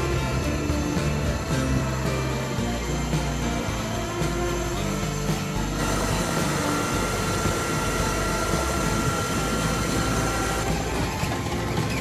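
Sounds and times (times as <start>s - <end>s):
helicopter engines and rotor running: 0.0s - 12.0s
thin high whine: 0.0s - 12.0s.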